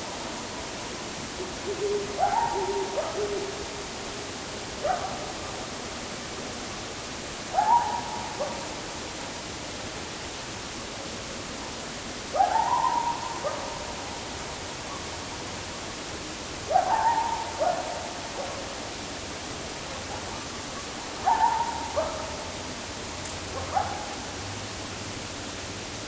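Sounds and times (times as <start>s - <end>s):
recorder hiss: 0.0s - 26.0s.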